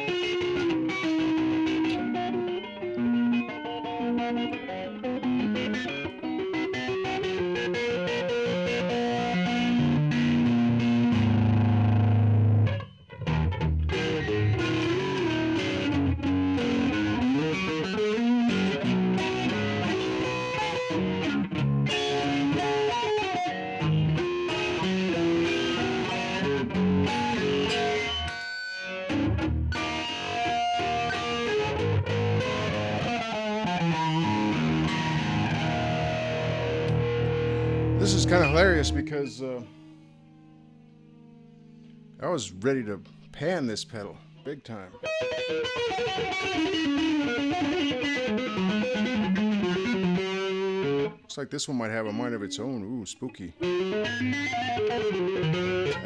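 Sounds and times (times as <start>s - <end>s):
distorted electric guitar riffs: 0.0s - 56.0s.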